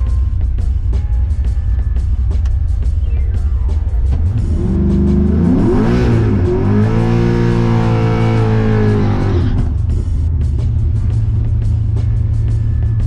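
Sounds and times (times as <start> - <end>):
car engine revving: 0.0 - 13.0
faint music: 0.0 - 13.0.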